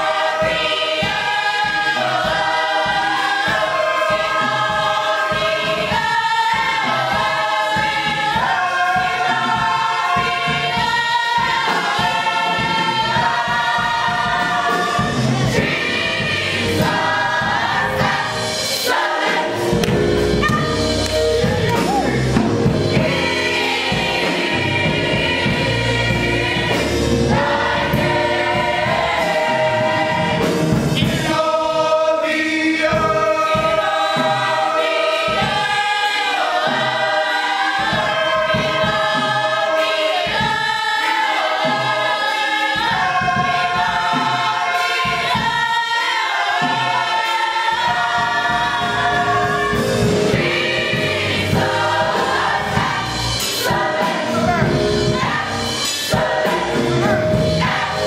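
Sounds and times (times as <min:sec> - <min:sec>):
gospel choir singing: 0:00.0 - 0:58.0.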